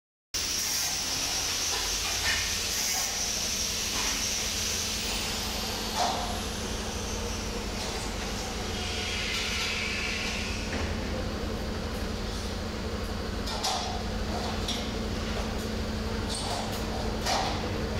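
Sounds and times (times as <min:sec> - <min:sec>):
welding machine hum with hiss: 0:00.4 - 0:17.9.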